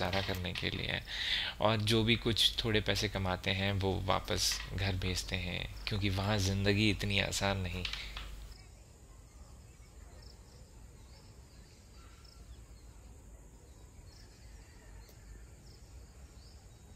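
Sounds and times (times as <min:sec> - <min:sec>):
faint bird chirps: 0:00.0 - 0:16.9
insects: 0:00.0 - 0:16.9.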